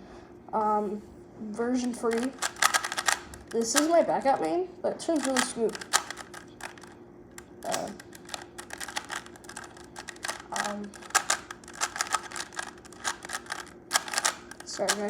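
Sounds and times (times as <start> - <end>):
puzzle cube clicking: 1.8 - 4.5, 5.2 - 15.0.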